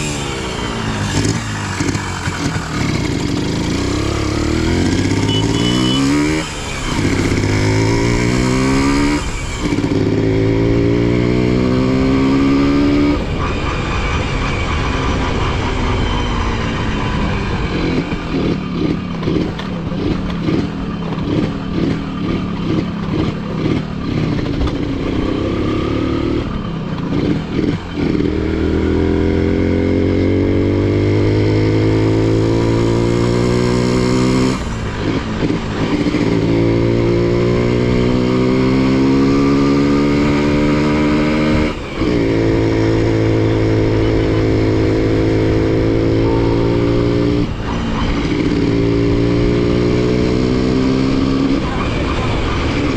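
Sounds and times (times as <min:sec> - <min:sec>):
motorcycle engine revving and shifting: 0:00.0 - 0:52.9.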